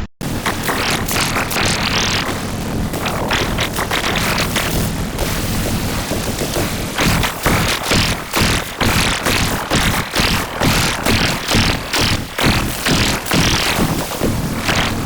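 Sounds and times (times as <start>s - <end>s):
dense pulsing rhythm: 0.2s - 15.0s
music over low drone: 0.2s - 15.0s.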